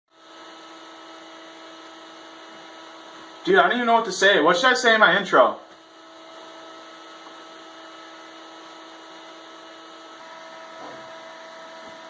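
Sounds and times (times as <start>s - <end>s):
equipment humming with faint whine: 0.2s - 12.0s.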